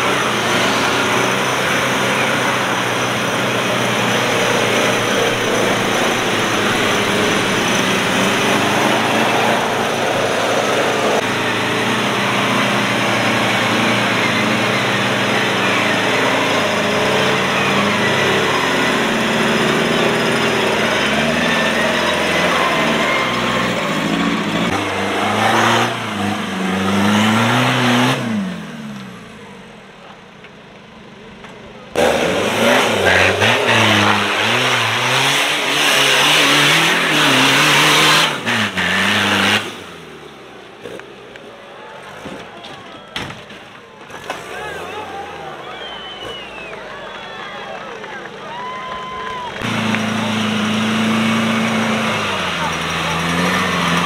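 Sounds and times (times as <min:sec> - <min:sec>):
buggy engines revving hard: 0:00.0 - 0:30.1, 0:31.8 - 0:54.0.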